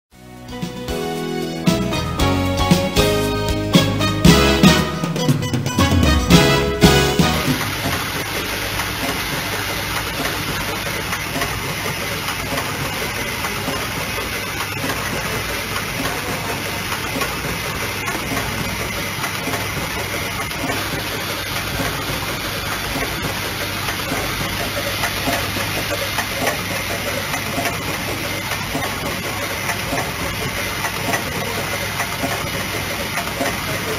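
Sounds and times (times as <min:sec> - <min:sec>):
assembly machine running: 0:00.6 - 0:33.9.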